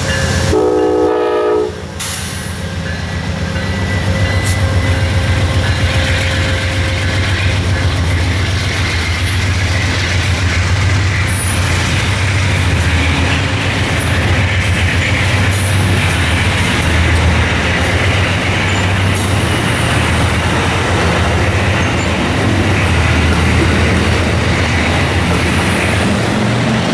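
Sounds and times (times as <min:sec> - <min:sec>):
locomotive engine hum: 0:00.0 - 0:26.9
wheel and rail rumble: 0:00.0 - 0:26.9.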